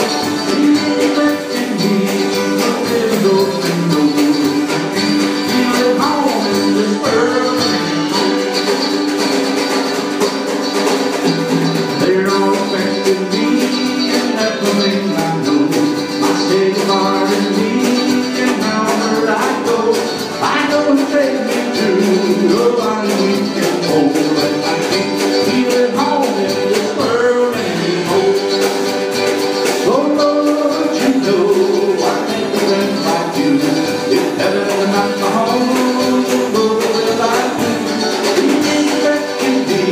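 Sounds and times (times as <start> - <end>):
man singing: 0.0 - 9.7, 11.4 - 39.9
mandolin: 0.0 - 39.9
strummed acoustic guitar: 0.0 - 39.9.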